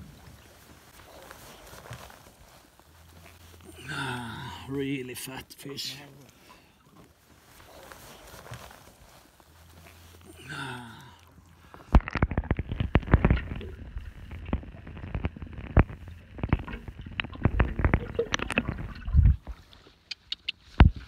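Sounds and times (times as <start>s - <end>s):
muffled underwater water sloshing: 0.0s - 10.4s, 11.0s - 21.0s.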